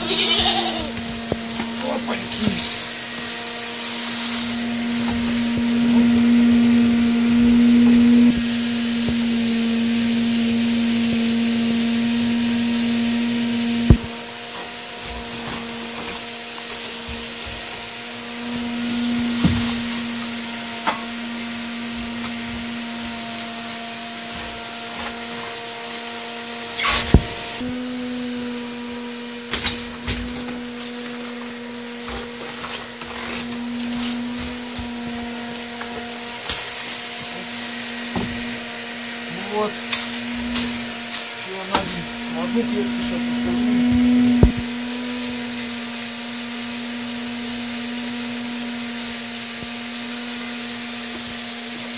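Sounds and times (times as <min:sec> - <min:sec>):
motor hum with high whine: 0:00.0 - 0:51.9.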